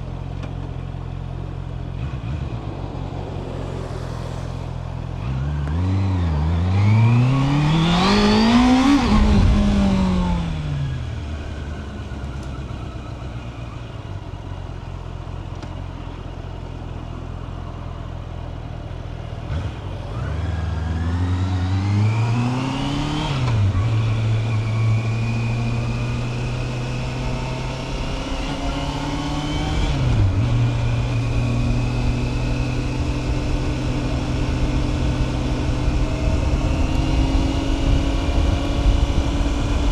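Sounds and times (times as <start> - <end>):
motorcycle engine revving: 0.0 - 15.3, 18.9 - 39.9.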